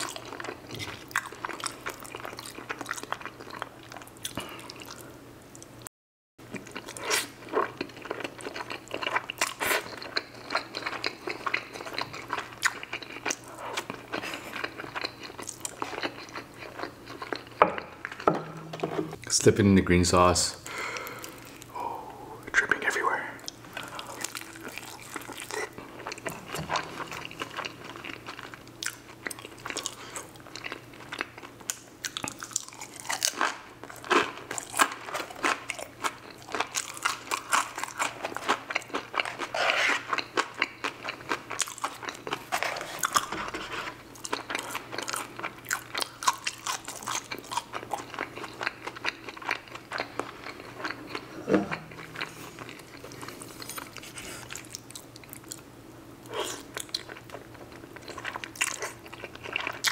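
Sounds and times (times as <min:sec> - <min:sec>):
person chewing crunchy food: 0:00.0 - 0:05.8, 0:06.5 - 0:19.2, 0:20.8 - 0:21.8, 0:23.4 - 0:59.9.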